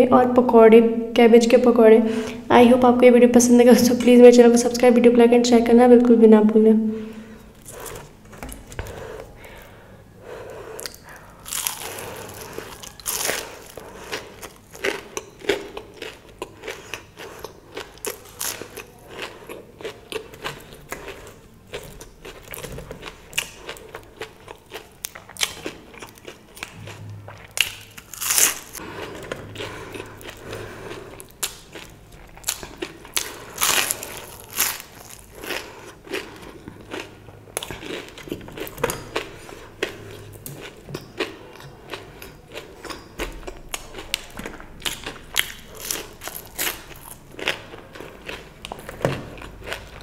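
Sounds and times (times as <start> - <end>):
person crunching and chewing food: 7.1 - 10.0, 10.6 - 50.0.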